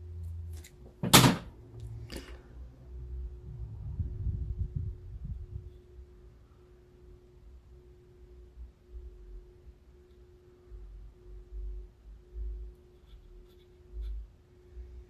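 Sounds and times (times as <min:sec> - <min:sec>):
low-pitched hum: 0:01.6 - 0:15.0.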